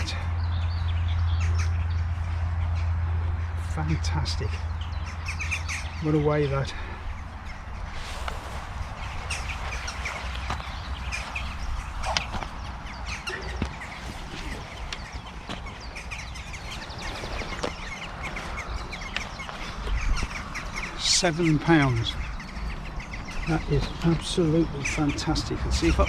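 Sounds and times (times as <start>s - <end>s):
birds chirping and trilling: 0.0s - 26.0s
steady low rumble: 0.0s - 26.0s.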